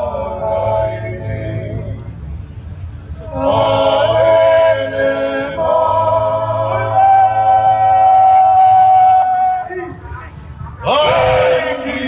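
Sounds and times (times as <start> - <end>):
group singing long held notes: 0.0 - 2.3, 3.1 - 9.7, 10.6 - 12.0
low musical backing: 0.0 - 12.0.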